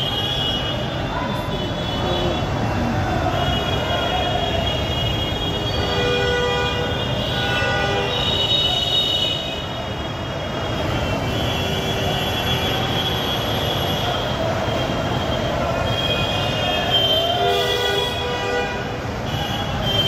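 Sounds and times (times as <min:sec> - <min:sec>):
busy road traffic rumble: 0:00.0 - 0:20.0.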